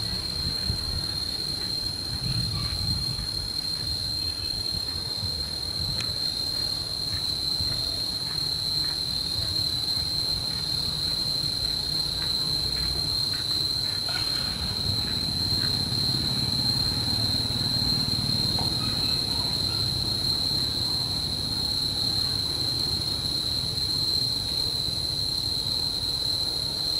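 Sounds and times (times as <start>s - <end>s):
insects buzzing: 0.0s - 26.9s.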